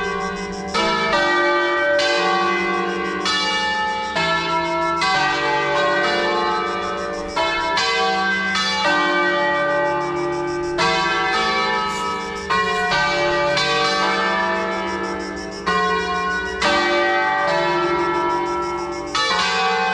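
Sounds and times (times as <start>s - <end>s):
church bells ringing: 0.0s - 19.9s.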